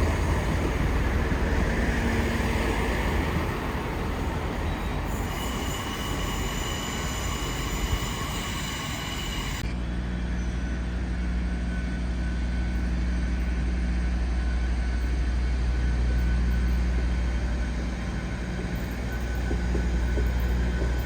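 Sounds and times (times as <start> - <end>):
train humming: 0.0 - 21.0.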